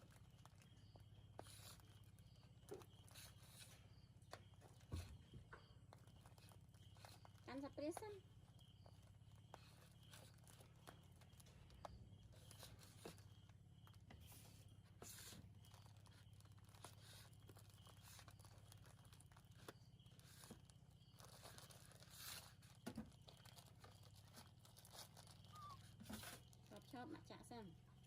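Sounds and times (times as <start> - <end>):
faint crinkling and rustling: 0.0 - 28.0.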